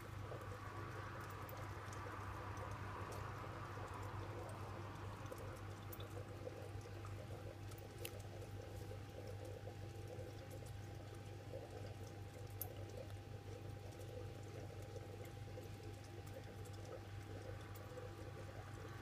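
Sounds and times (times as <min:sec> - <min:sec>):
aquarium low hum: 0:00.0 - 0:19.0
faint steady whine: 0:00.0 - 0:19.0
small drip ticks: 0:00.0 - 0:19.0
water bubbling and trickling: 0:00.0 - 0:19.0.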